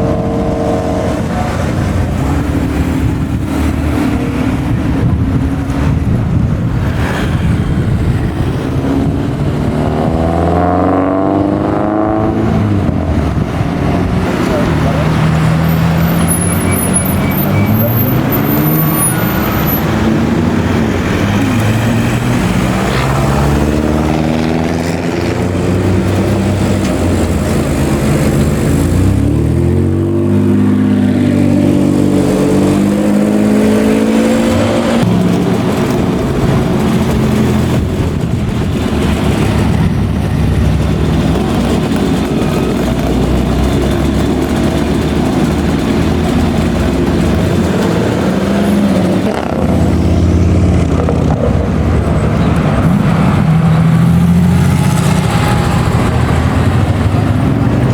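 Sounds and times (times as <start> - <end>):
car engines revving: 0.0 - 57.9.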